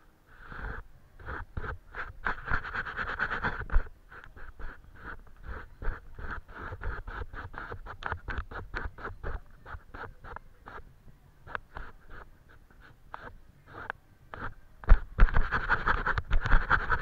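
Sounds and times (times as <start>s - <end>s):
paintbrush scratching on paper: 0.3s - 17.0s.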